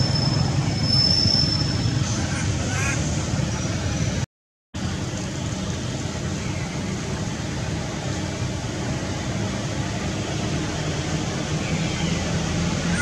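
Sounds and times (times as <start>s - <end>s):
rushing outdoor background noise: 0.0s - 13.0s.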